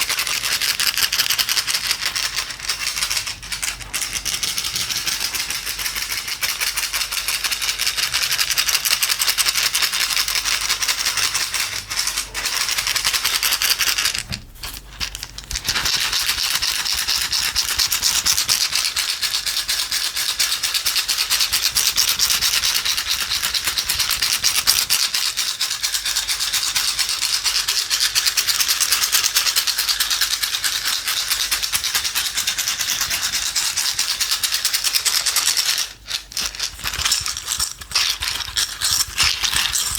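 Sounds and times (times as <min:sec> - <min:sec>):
small dry objects rattling: 0:00.0 - 0:39.9.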